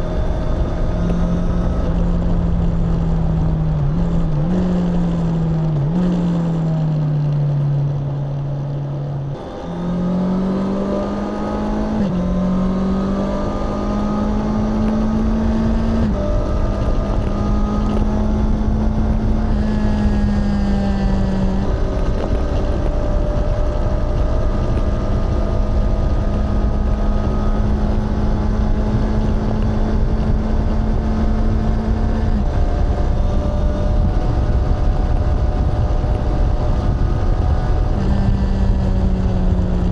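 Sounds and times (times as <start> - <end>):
motorcycle engine and exhaust: 0.0 - 39.9
rushing wind noise: 0.0 - 39.9.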